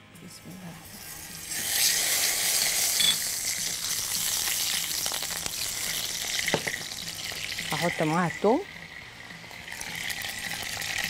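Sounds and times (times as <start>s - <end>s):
ghee sizzling in a saucepan: 0.7s - 11.0s.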